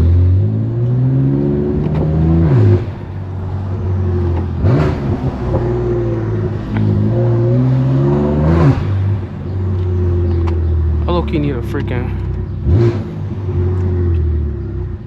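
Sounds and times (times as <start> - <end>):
loud car engine exhaust: 0.0 - 15.0.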